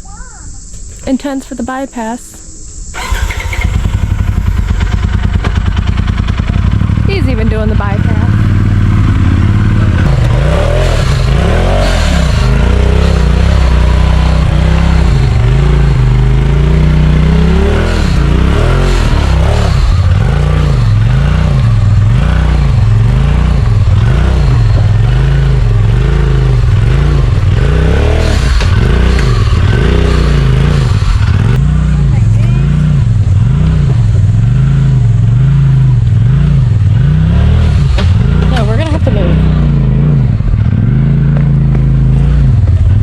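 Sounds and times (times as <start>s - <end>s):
utility vehicle engine revving: 2.9s - 43.0s.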